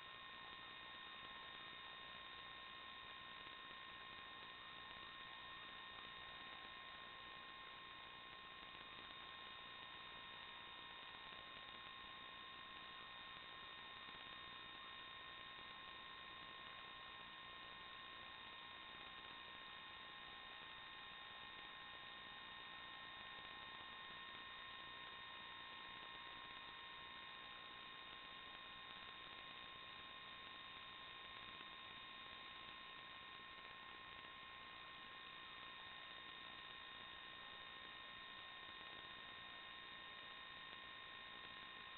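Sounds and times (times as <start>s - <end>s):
static hiss: 0.0s - 41.9s.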